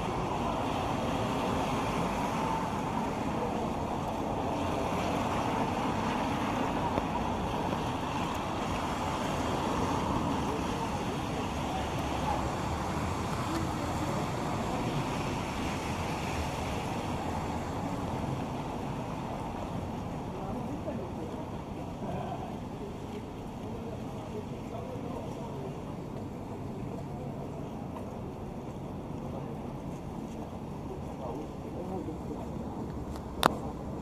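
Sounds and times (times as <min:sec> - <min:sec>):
traffic on wet streets: 0:00.0 - 0:34.0.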